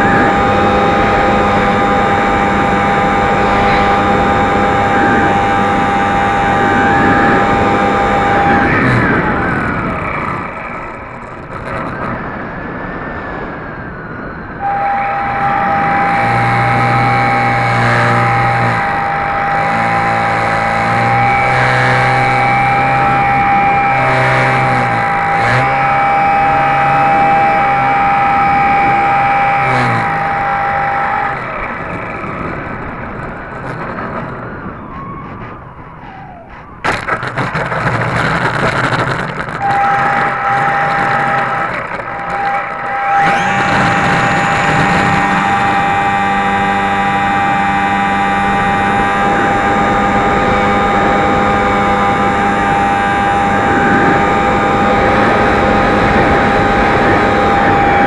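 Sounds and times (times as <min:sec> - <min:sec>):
model plane motor whine: 0:00.0 - 0:35.2, 0:36.0 - 0:58.0.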